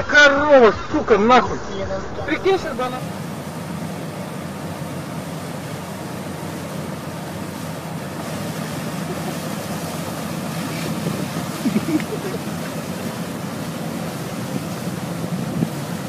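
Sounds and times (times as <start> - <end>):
low steady hum: 0.0 - 16.0
water jet gushing from pipe: 2.6 - 16.0.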